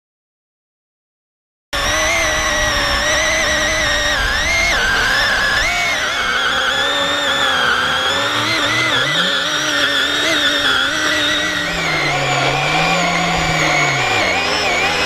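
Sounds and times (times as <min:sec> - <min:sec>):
electric chainsaw cutting log: 0:01.8 - 0:15.0.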